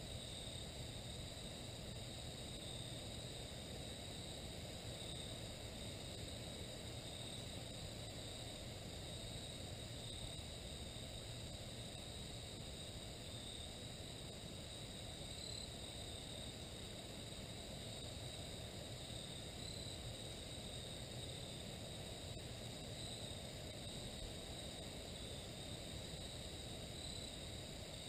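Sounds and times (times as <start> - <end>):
insect chorus trilling: 0.0 - 28.0.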